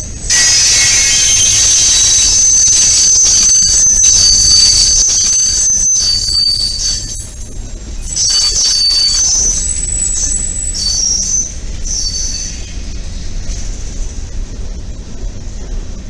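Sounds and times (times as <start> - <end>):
train wheels squealing on rails: 0.0 - 14.1
freight train rumble: 0.0 - 16.0.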